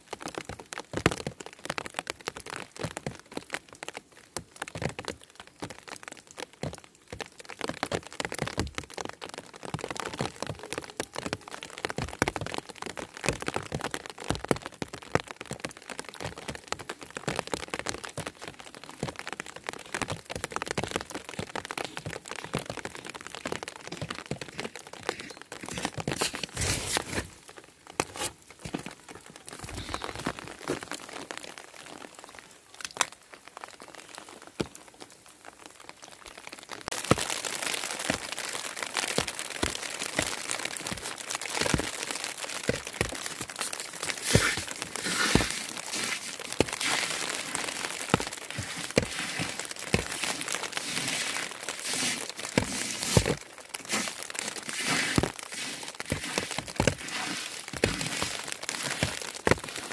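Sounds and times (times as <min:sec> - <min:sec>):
snow ticking on surfaces: 0:00.0 - 0:59.9.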